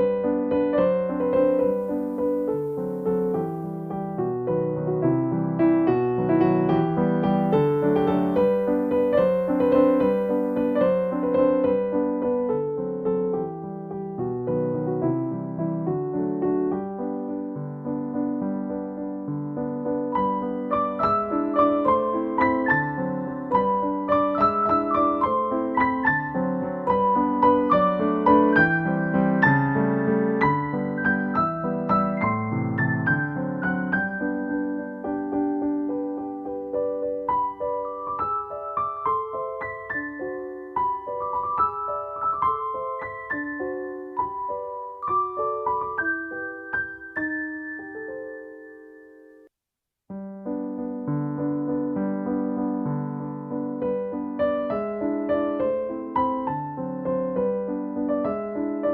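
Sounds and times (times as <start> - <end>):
piano music: 0.0 - 49.5, 50.1 - 58.9.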